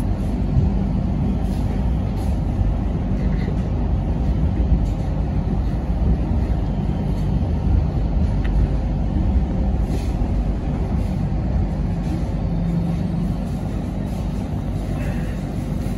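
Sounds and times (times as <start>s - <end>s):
train wheels rumbling: 0.0s - 15.9s.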